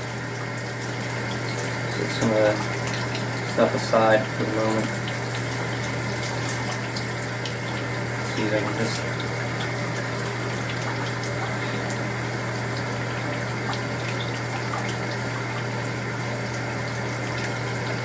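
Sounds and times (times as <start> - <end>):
shower water spraying: 0.0 - 18.0.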